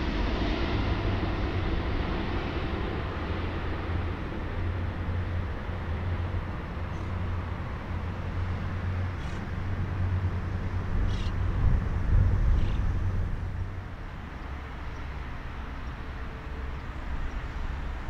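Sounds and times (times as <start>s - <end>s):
jet engines rumble and hiss: 0.0s - 18.0s.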